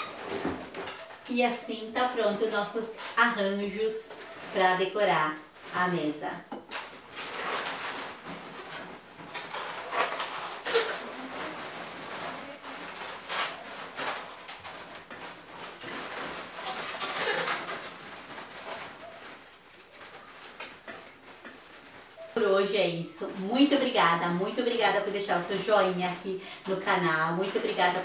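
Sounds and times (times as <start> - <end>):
balloons rubbing and squeaking: 0.0 - 28.0.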